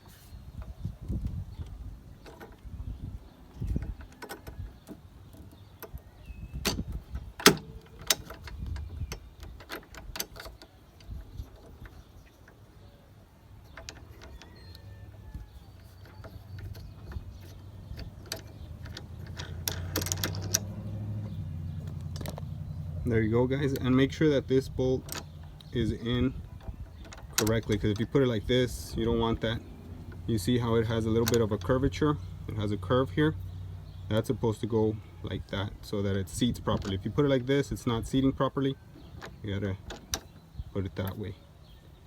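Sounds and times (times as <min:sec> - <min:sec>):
parts clicking and knocking: 0:00.6 - 0:02.7, 0:03.4 - 0:34.7, 0:35.8 - 0:41.4.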